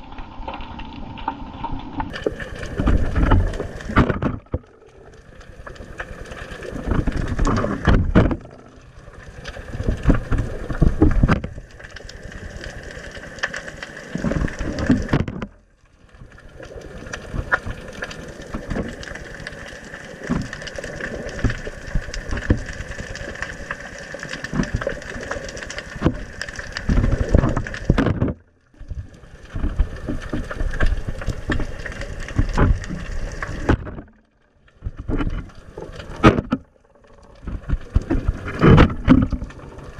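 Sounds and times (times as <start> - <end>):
clicks and crackles: 0.0 - 39.9
water surging underwater: 0.0 - 39.9.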